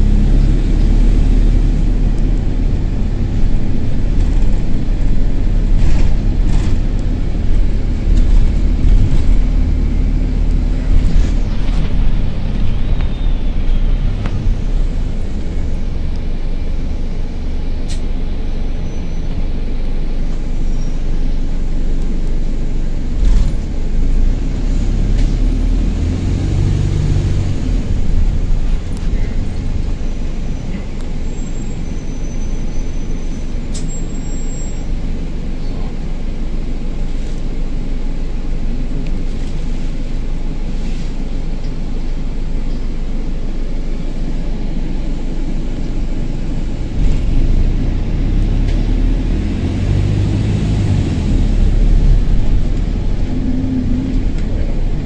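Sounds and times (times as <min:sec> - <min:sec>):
bus engine rumbling: 0:00.0 - 0:55.0.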